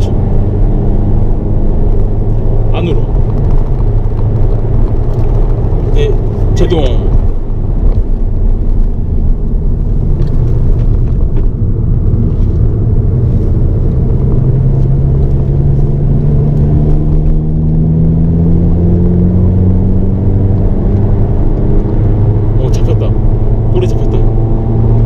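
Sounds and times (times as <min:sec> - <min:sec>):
car engine accelerating: 0:00.0 - 0:25.0
road rumble inside car: 0:00.0 - 0:25.0.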